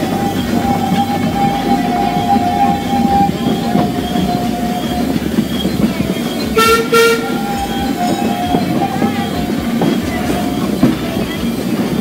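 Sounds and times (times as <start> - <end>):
locomotive toots: 0.0 - 12.0
train running on rails: 0.0 - 12.0.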